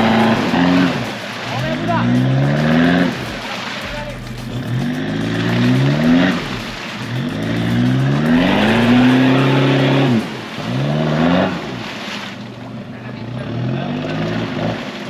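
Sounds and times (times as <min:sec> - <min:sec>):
engine revving hard: 0:00.0 - 0:12.1, 0:13.2 - 0:15.0.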